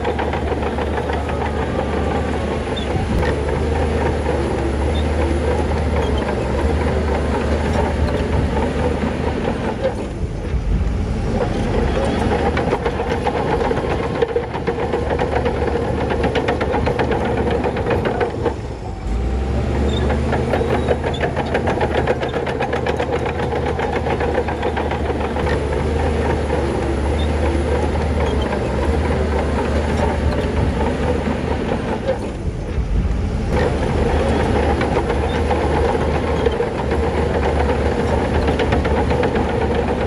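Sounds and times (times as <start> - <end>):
heavy diesel engine running: 0.0 - 40.0.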